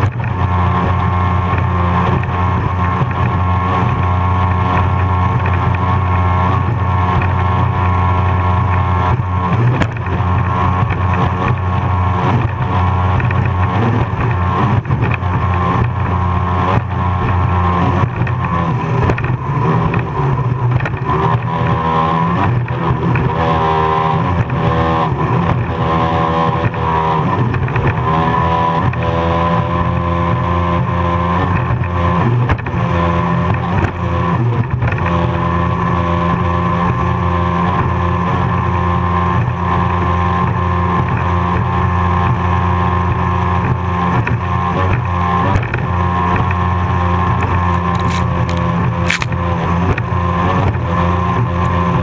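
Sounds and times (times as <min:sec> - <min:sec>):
powerboat engine running hard: 0:00.0 - 0:52.0
wind: 0:00.0 - 0:52.0.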